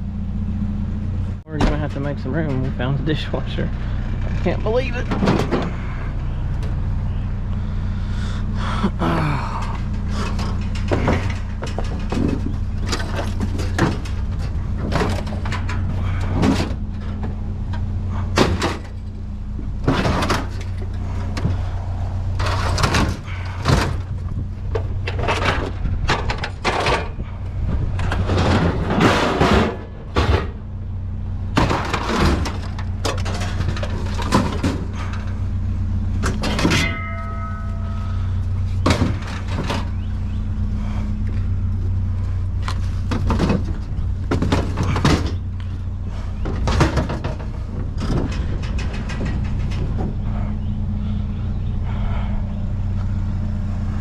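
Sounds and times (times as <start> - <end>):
steady low hum: 0.0 - 54.0
scrap metal clanking and rattling: 1.3 - 7.5, 9.3 - 54.0.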